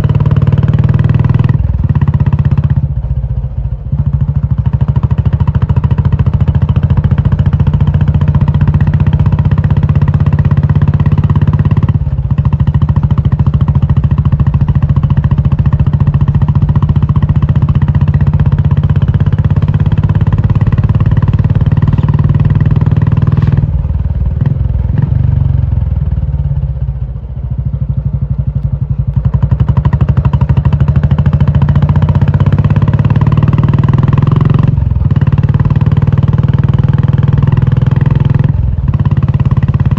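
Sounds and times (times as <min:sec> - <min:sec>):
motorcycle engine thumping: 0:00.0 - 0:39.9.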